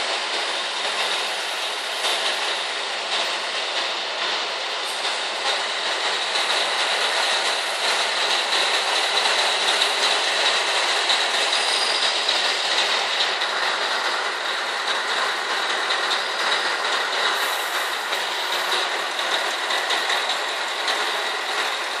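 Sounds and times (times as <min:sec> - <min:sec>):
truck engine running slowly: 0:00.0 - 0:22.0.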